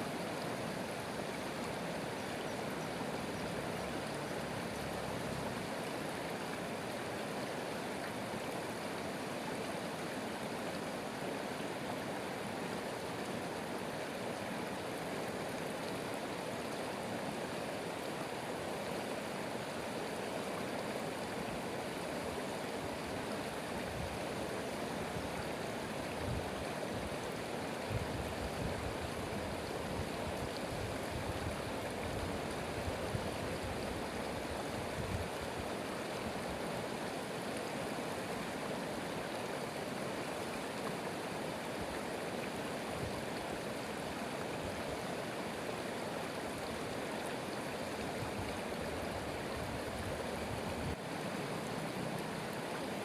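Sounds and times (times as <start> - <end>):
stream water running: 0.0 - 53.0.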